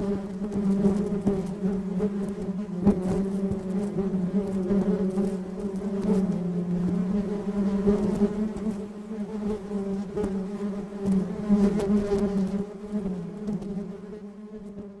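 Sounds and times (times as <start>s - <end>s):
bee buzzing: 0.0s - 15.0s.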